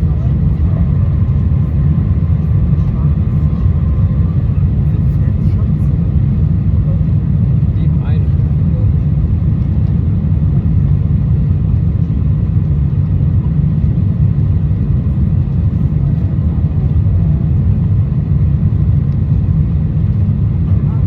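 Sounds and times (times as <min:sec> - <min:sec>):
aircraft engines rumbling: 0:00.0 - 0:21.0.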